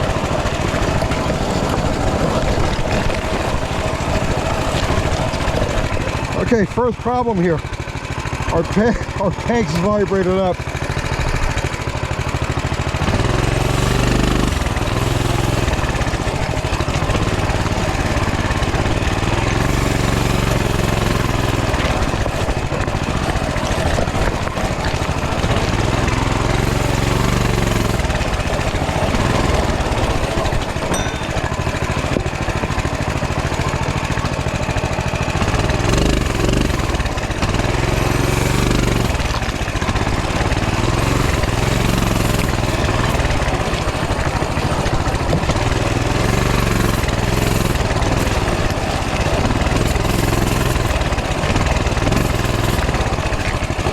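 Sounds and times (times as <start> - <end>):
mini bike engine revving: 0.0 - 53.9.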